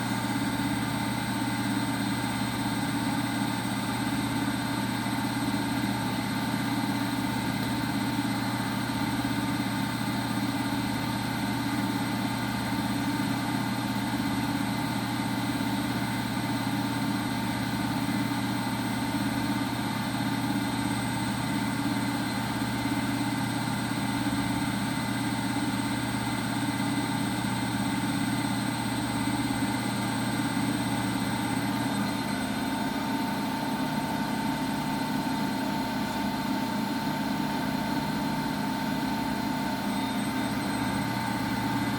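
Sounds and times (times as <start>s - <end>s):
washing machine running: 0.0s - 41.9s.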